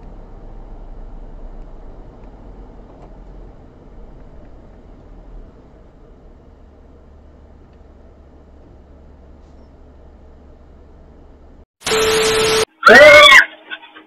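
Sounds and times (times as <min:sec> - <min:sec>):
car cabin road rumble: 0:00.0 - 0:11.7.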